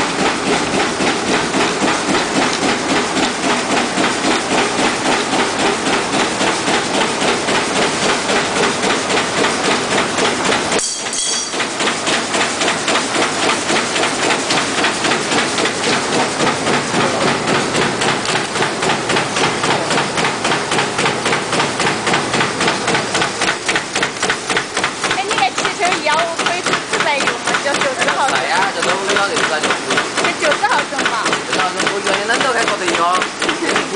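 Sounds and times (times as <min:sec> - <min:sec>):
die-cutting machine clattering: 0:00.0 - 0:33.9.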